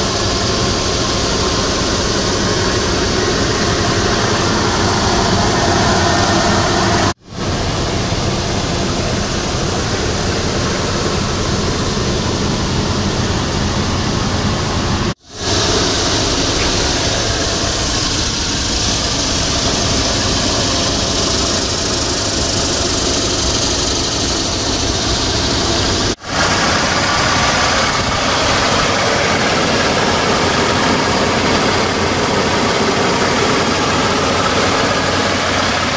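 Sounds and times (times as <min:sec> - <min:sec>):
car engine running with hiss: 0:00.0 - 0:35.9.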